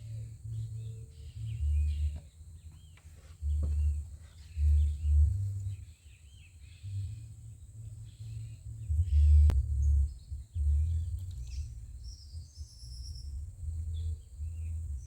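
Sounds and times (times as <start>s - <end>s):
low rumbling buffets: 0.0s - 15.0s
small birds chirping: 0.0s - 15.0s.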